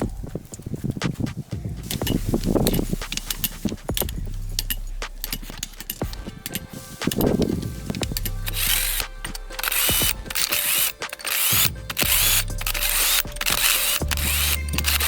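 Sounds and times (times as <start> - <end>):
background music: 0.0 - 15.0
ratchet wrench clicking: 1.8 - 15.0.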